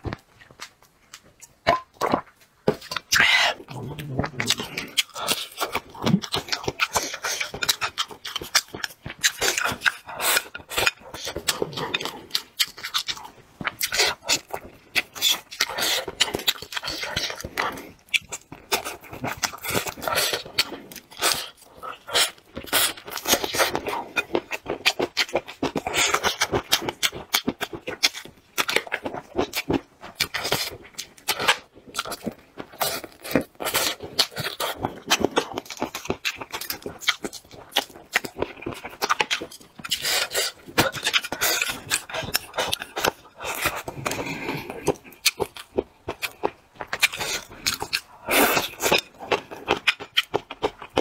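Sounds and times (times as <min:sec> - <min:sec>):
chewing mouth clicks and smacks: 0:00.1 - 0:51.0.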